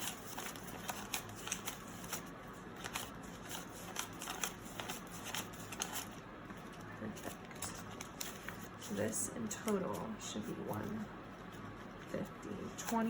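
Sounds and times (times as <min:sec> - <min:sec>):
paper bills being counted: 0:00.0 - 0:13.0.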